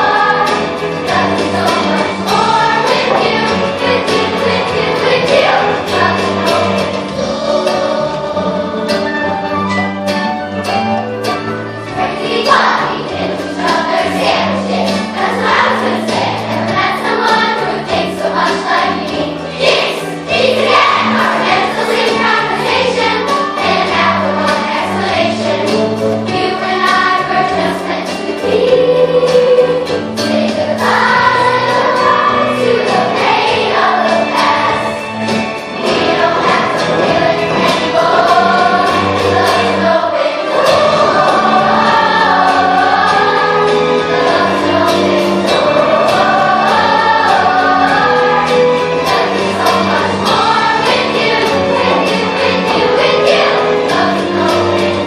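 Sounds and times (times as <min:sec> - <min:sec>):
steady low notes: 0:00.0 - 0:08.9, 0:11.9 - 0:55.0
choir singing in parts: 0:00.0 - 0:10.9, 0:11.8 - 0:55.0.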